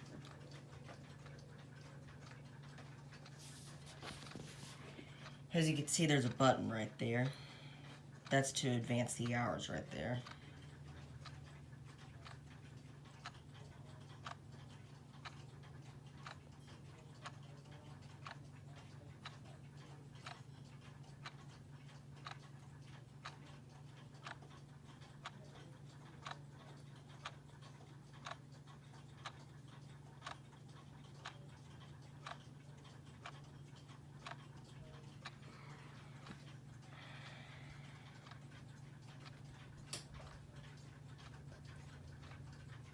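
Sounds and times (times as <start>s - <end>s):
clock ticking: 0.0s - 42.9s.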